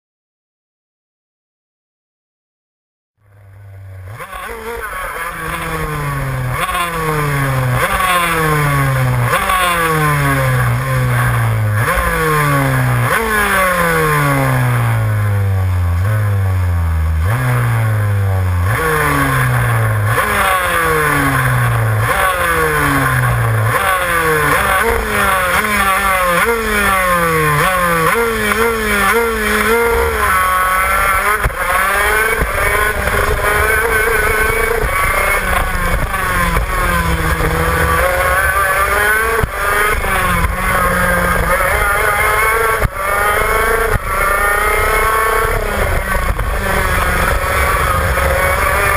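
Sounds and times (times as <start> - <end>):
kart engines revving: 3.3 - 48.9.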